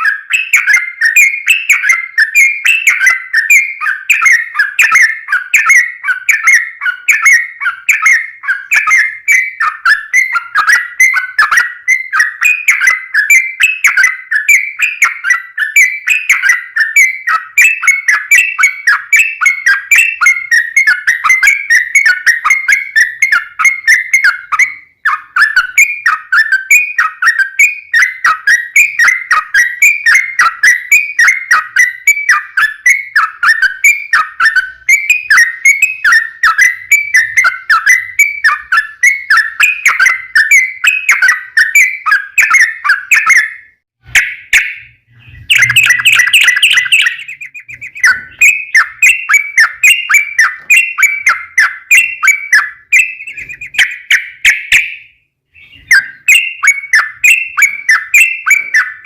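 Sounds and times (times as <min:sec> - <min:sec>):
bulbul singing bubbly whistles: 0:00.0 - 0:59.0.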